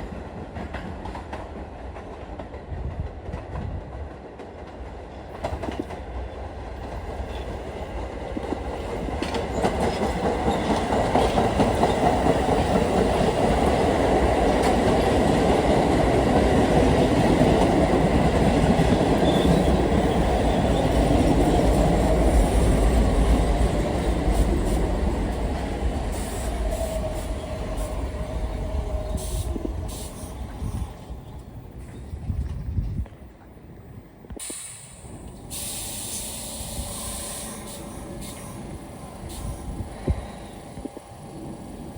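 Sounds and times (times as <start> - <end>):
subway train passing: 0.0 - 41.9.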